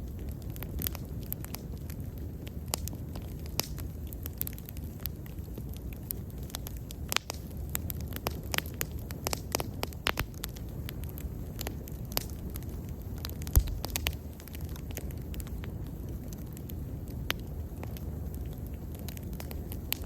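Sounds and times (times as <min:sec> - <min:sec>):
bonfire crackling and popping: 0:00.0 - 0:20.0
low rumble of flames: 0:00.0 - 0:20.0.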